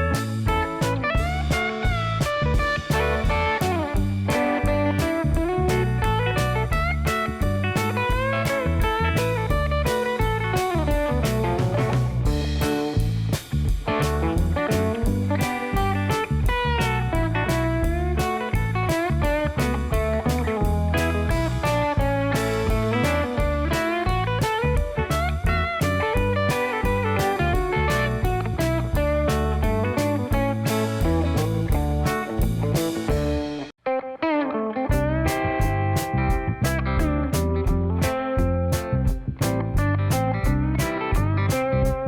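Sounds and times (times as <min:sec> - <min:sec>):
bluesy electric guitar over beat: 0:00.0 - 0:42.0.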